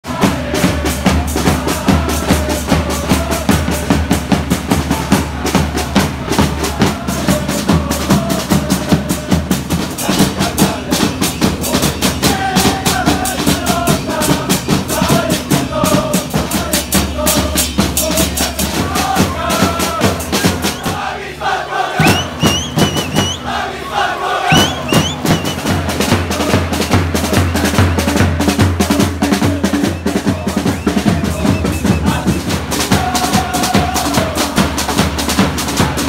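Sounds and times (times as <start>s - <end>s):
crowd singing a chant: 0.0s - 36.0s
loud drumbeat: 0.0s - 36.0s.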